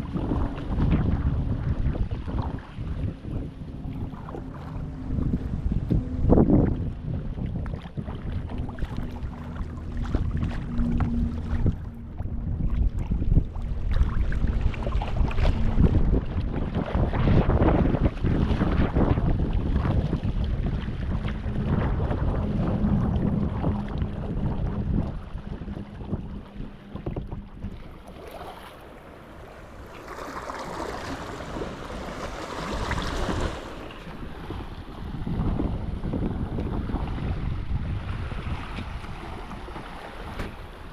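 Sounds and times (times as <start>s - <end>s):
water splashing around kayak: 0.0s - 40.9s
wind buffeting microphone: 0.0s - 40.9s.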